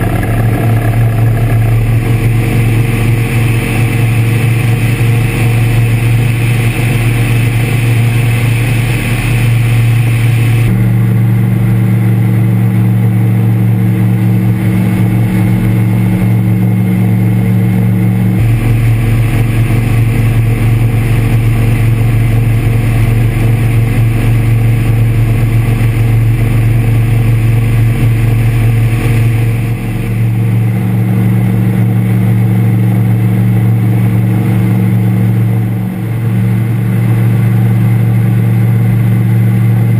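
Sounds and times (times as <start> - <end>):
microlight engine drone: 0.0 - 39.9.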